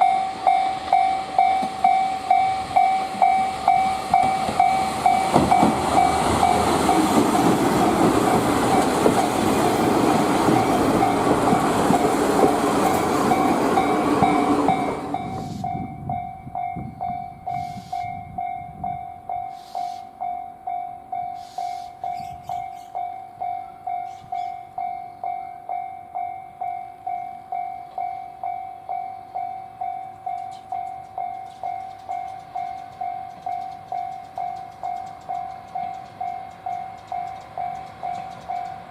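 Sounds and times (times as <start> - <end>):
level crossing bell ringing: 0.0 - 7.2, 13.2 - 38.9
diesel railcar passing: 0.0 - 38.9.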